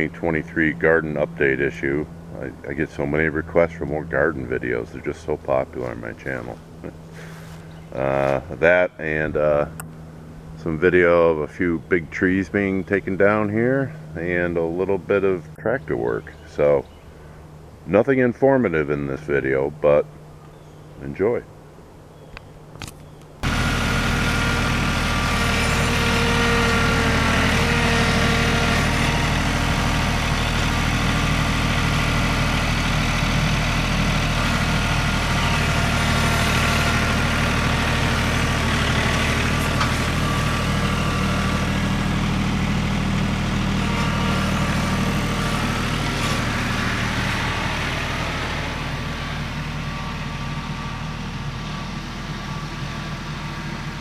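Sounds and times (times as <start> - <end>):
large engine running steadily: 0.0 - 21.7, 22.6 - 54.0.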